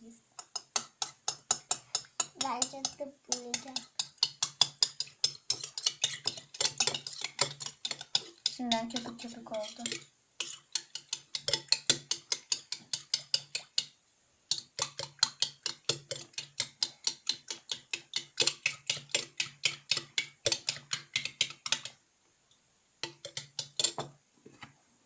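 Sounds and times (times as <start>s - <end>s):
spoon stirring foamy slime: 0.4s - 22.0s, 23.0s - 24.1s.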